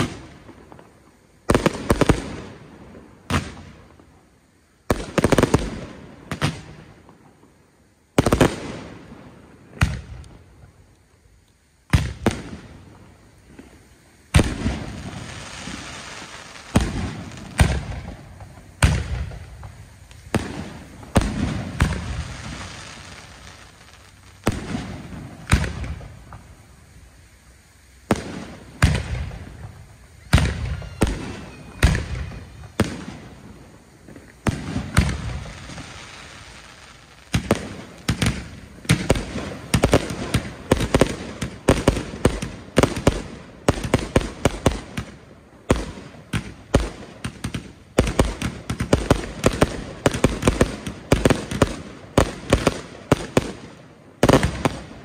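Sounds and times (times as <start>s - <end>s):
fireworks bursting with echo: 0.0s - 55.0s.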